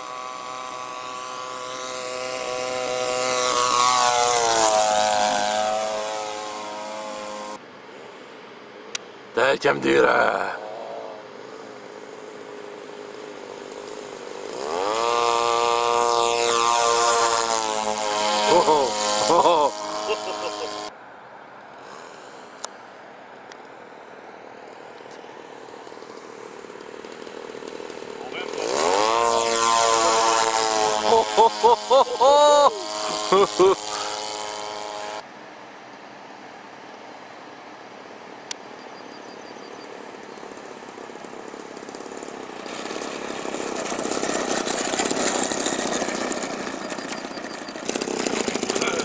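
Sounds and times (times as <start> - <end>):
model plane engine flyby: 0.0 - 9.0, 10.4 - 21.0, 24.8 - 35.3, 39.0 - 49.0.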